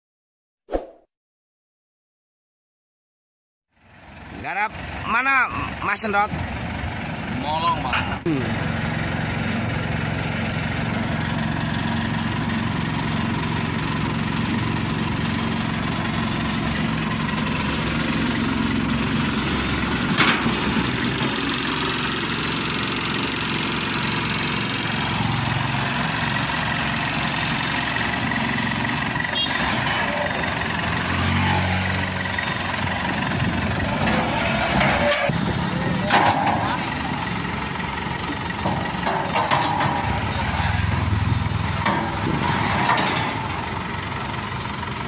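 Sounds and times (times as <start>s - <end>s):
diesel engine idling: 3.8s - 45.0s.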